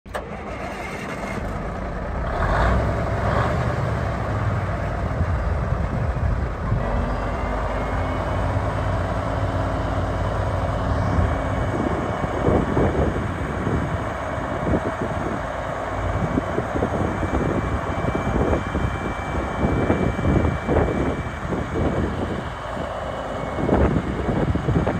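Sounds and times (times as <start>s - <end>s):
diesel truck engine running: 0.1s - 24.9s.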